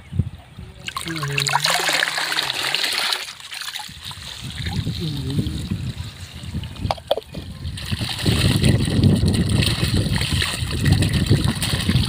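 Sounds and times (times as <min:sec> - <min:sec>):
water pouring from pipe into pool: 0:00.8 - 0:12.0.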